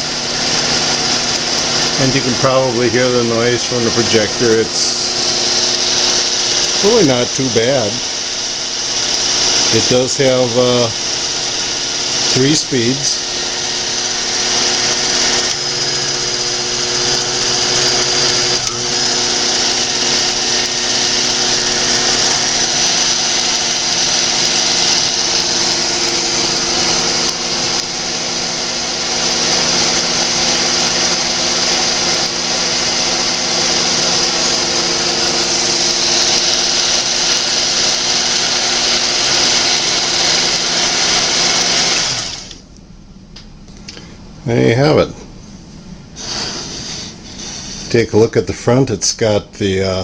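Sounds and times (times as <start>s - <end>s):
film projector whirring: 0.0s - 42.8s, 46.1s - 48.0s.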